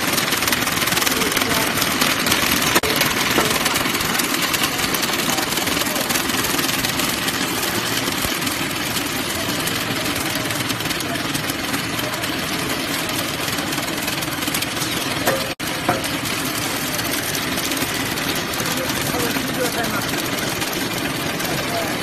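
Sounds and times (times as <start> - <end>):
machine clatter with fine ticking: 0.0 - 22.0
sharp machine clicks: 0.0 - 22.0.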